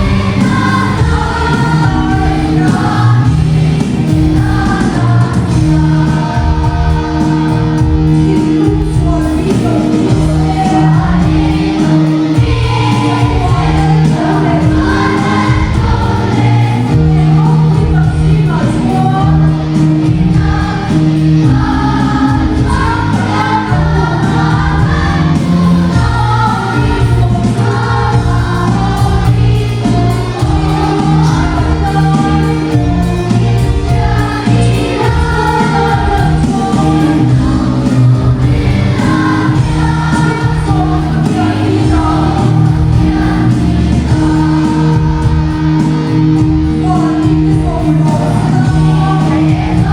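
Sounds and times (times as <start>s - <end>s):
choir singing gospel: 0.0s - 49.9s
held bass notes: 0.0s - 49.9s
instrumental backing: 0.0s - 49.9s.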